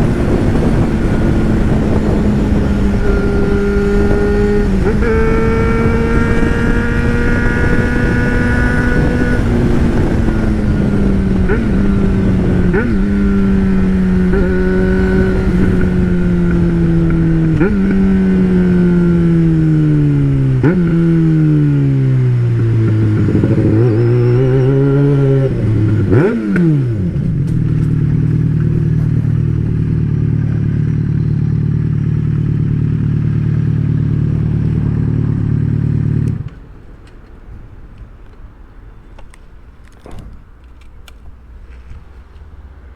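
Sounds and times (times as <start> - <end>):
motorcycle engine revving and idling: 0.0 - 36.8.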